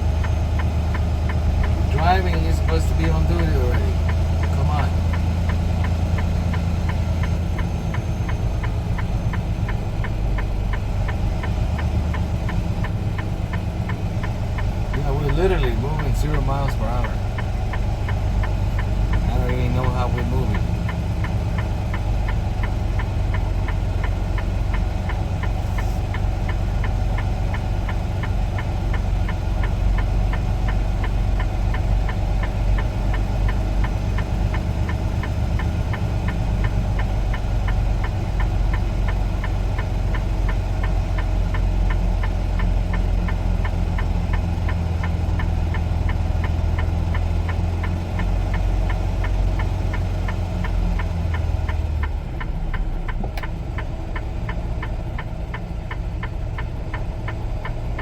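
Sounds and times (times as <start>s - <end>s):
truck diesel engine idling: 0.0s - 58.0s
fast ticking clicks: 0.1s - 58.0s.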